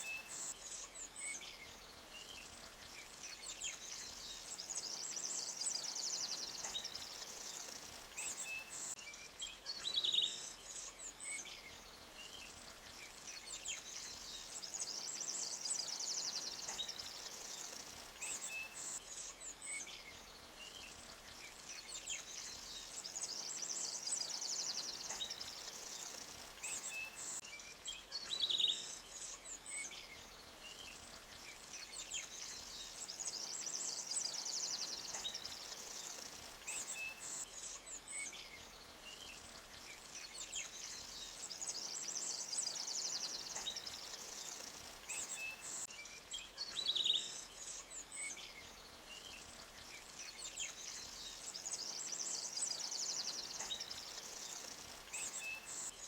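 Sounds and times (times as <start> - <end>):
forest birds chirping and trilling: 0.0 - 56.0.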